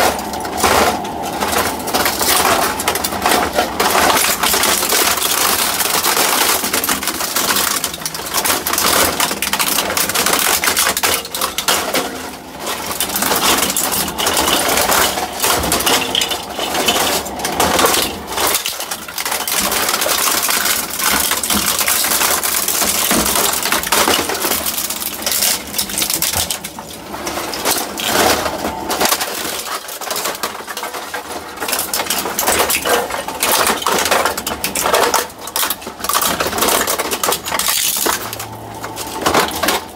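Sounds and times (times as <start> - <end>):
shredder crunching plastic: 0.0 - 39.9.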